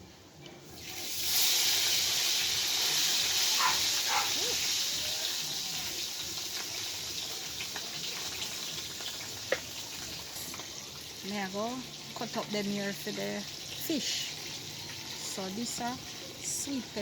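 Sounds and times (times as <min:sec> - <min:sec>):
hot oil sizzling in a pot: 0:00.6 - 0:17.0.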